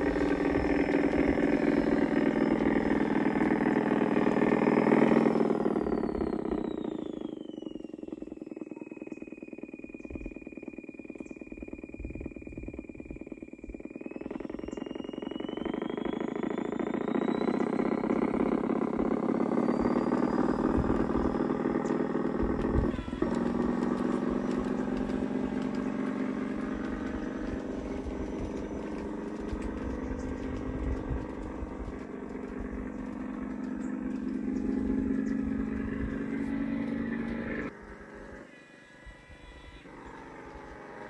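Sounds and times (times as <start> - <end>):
model train running past: 0.0 - 9.1, 14.0 - 41.0
high whine falling in pitch: 0.0 - 41.0
rapid clicking of wheels: 0.0 - 41.0.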